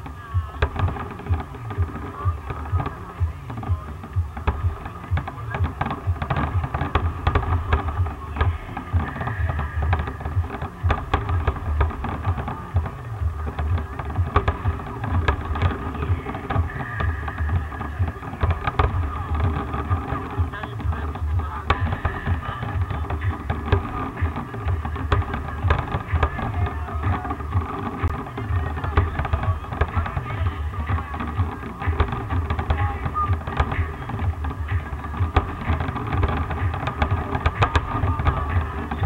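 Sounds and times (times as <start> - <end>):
deep rumble of booms: 0.0 - 39.0
fireworks sharp bangs: 0.0 - 39.0.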